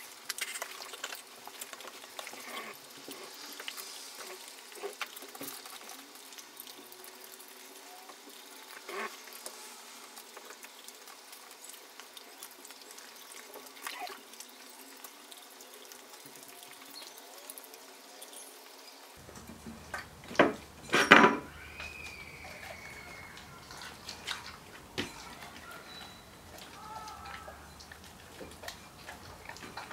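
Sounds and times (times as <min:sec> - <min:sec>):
dogs slurping and chewing: 0:00.0 - 0:18.5, 0:19.2 - 0:29.9.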